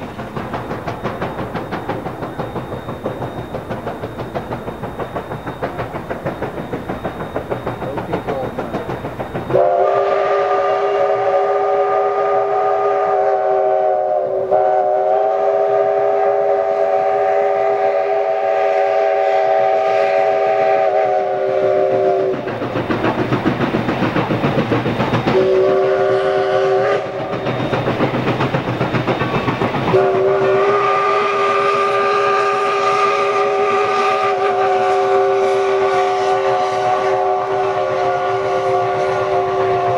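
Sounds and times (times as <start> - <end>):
steam locomotive chime whistle: 0.0 - 22.5, 24.9 - 39.9
steam engine exhaust chuff: 0.0 - 39.9.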